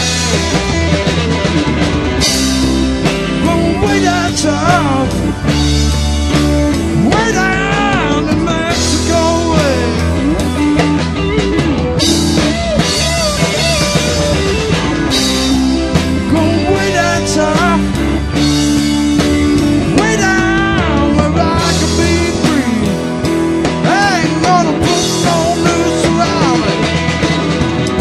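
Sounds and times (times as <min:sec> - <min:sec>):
rock band playing: 0:00.0 - 0:28.0
sliding electric guitar melody: 0:00.0 - 0:28.0.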